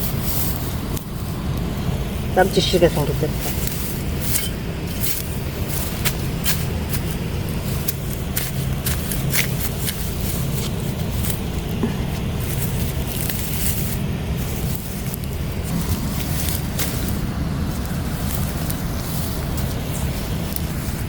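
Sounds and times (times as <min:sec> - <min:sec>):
hand tool digging in soil: 0:00.0 - 0:21.0
steady low rumble: 0:00.0 - 0:21.0.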